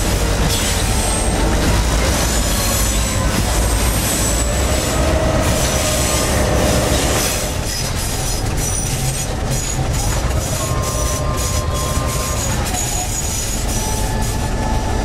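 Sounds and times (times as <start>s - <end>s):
locomotive engine and wheels rumbling: 0.0s - 15.0s
wheel flanges squealing: 0.0s - 15.0s.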